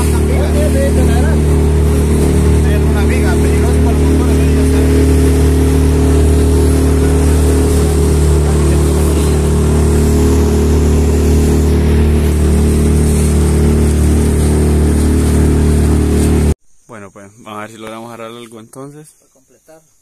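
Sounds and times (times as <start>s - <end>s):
outboard motor running: 0.0s - 16.6s
water spraying off hull: 0.0s - 16.6s.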